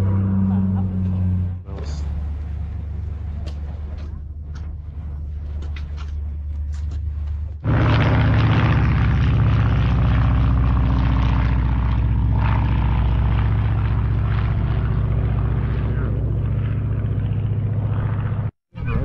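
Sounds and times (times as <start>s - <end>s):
low engine rumble: 0.0s - 19.0s
propeller airplane engine: 0.0s - 19.0s.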